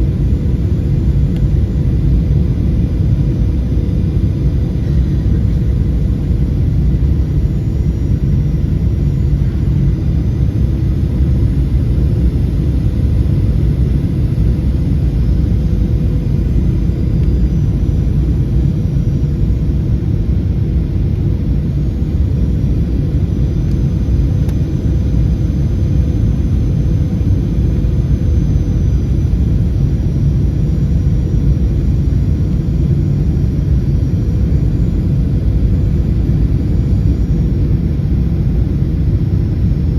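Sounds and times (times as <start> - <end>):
airliner cabin rumble: 0.0 - 39.9
faint steady hum: 0.0 - 39.9.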